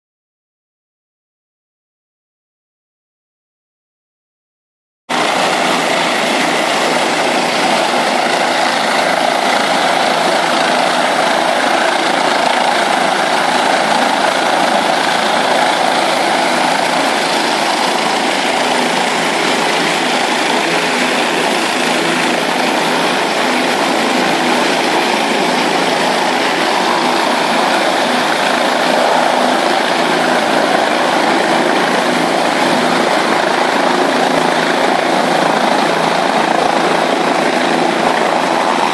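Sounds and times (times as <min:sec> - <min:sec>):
helicopter engines and rotors: 0:05.1 - 0:38.9.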